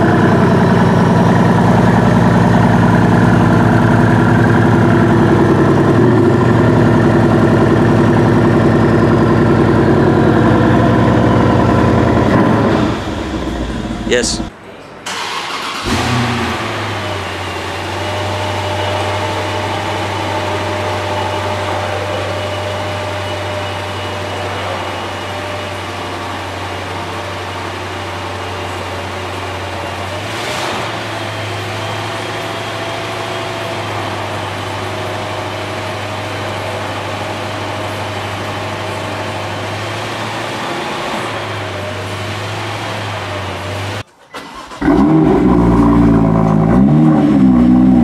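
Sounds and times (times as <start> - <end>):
car engine idling: 0.0 - 14.5, 15.1 - 30.4, 31.1 - 48.0.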